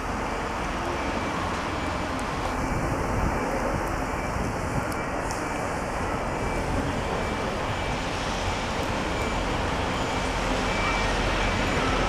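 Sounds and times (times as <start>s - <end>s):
diesel train engine and rolling: 0.0s - 12.0s.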